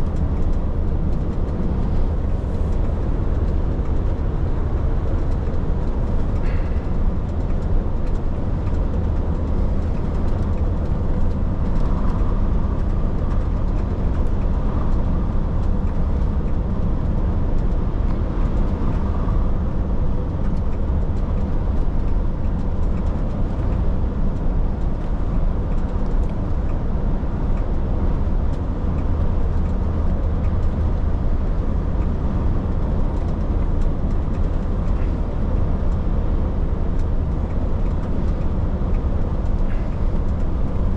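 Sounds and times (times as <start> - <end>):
truck engine drone: 0.0 - 40.9
wind noise: 0.0 - 40.9.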